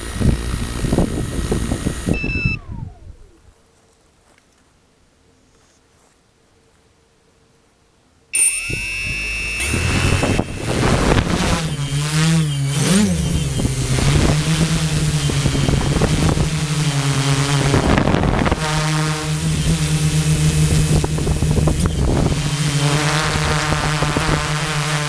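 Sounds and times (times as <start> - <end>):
drone hover hum: 0.0 - 3.5, 8.4 - 25.0
drone motors and propellers: 0.0 - 3.5, 8.4 - 25.0.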